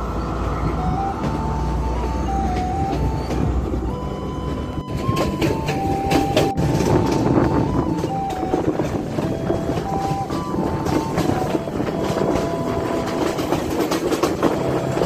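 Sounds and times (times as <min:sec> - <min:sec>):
high tone shifting pitch: 0:00.0 - 0:15.0
train rumbling: 0:00.0 - 0:15.0
wheels clacking on rails: 0:00.0 - 0:15.0.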